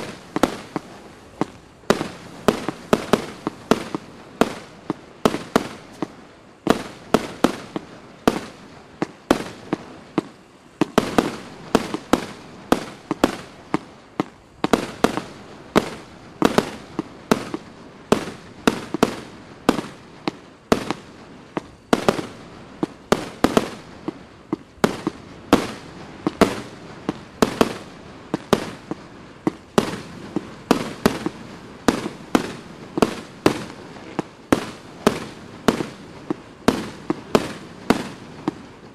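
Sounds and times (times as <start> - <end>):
fireworks launching and bursting: 0.0 - 38.9.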